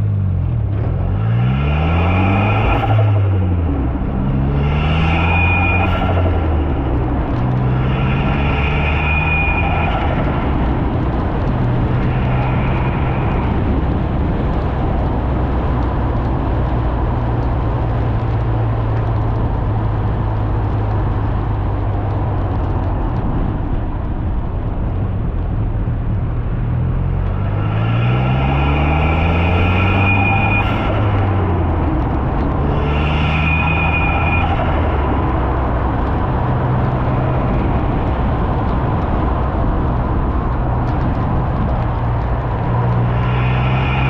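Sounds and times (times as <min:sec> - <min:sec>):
car engine accelerating: 0:00.0 - 0:44.0.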